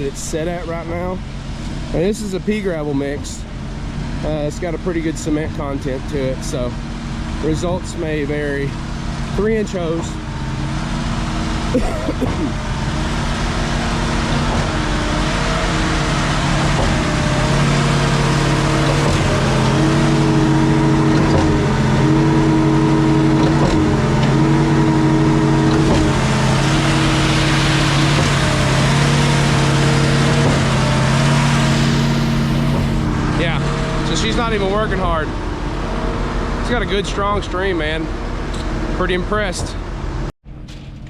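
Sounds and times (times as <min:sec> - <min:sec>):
gasoline engine driving concrete pump: 0:00.0 - 0:41.0.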